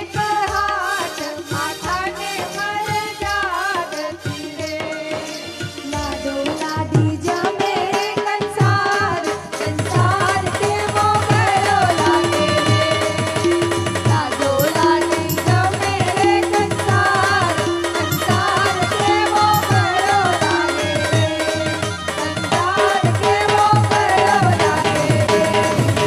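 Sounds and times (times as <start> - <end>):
drum steady beat: 0.0 - 26.0
tabla: 0.0 - 26.0
women singing into microphones: 0.0 - 26.0.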